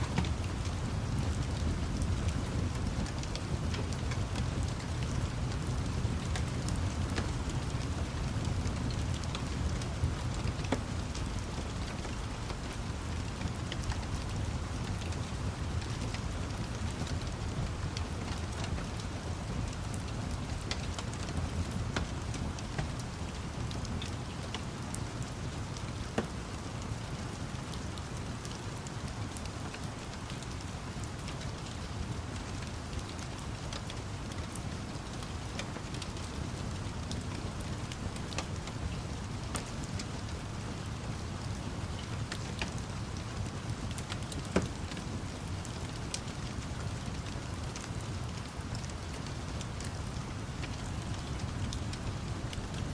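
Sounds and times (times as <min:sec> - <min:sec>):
steady rain: 0:00.0 - 0:52.9
wood fire crackling and popping: 0:00.0 - 0:52.9.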